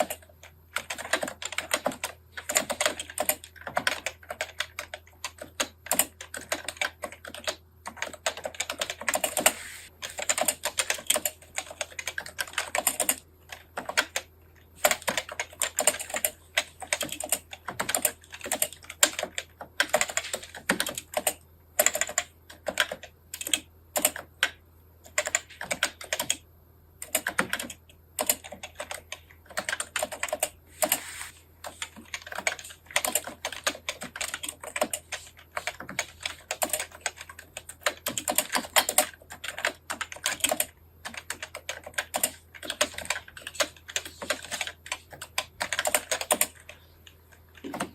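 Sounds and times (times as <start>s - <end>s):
fast typing on keyboard: 0.0s - 47.9s.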